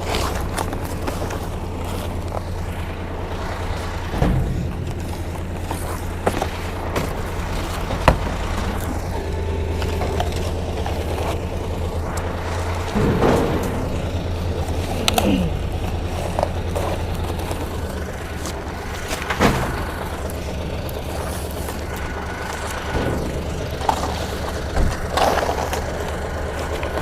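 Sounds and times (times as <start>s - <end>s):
machinery clanks and knocks: 0.0s - 27.0s
truck engine running: 0.0s - 27.0s.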